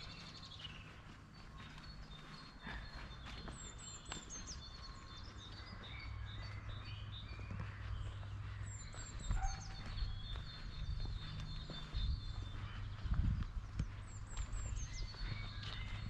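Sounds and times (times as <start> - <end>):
birds singing: 0.0 - 16.0
steady low rumble: 0.0 - 16.0.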